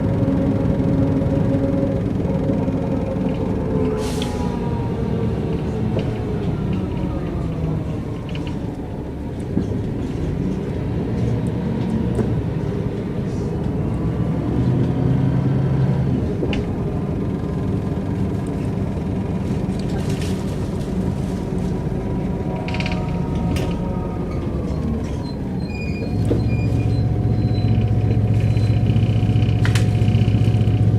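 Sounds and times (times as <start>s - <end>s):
bus body rattles: 0.0s - 30.9s
bus diesel engine running: 0.0s - 30.9s.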